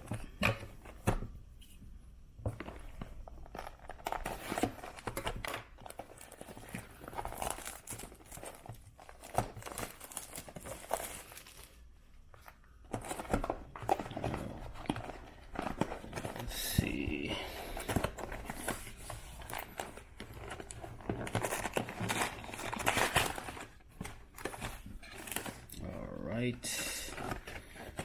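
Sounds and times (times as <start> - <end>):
plastic wrapping crinkling and tearing: 3.1 - 25.8.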